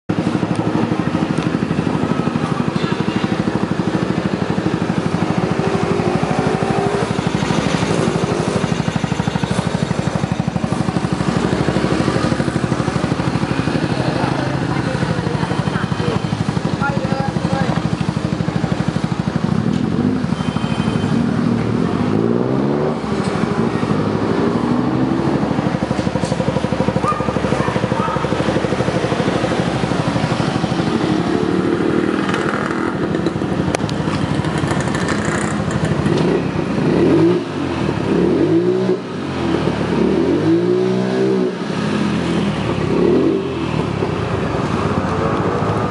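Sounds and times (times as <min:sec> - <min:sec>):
scooter engine idling and revving: 0:00.0 - 0:45.9.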